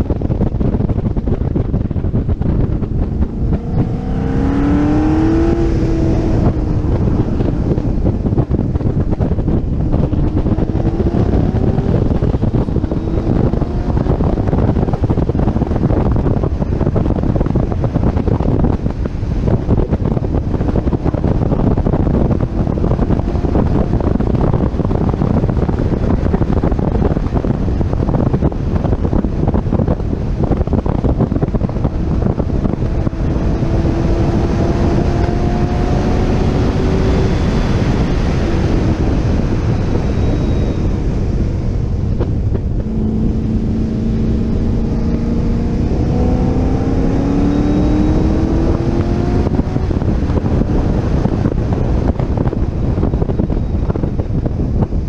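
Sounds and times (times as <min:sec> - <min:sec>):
car engine accelerating hard: 0:00.0 - 0:55.0
wind noise on microphone: 0:00.0 - 0:55.0.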